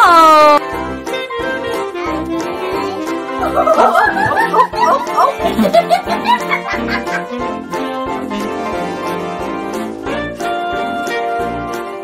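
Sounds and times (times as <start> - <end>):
bouncy instrumental music: 0.0 - 12.0.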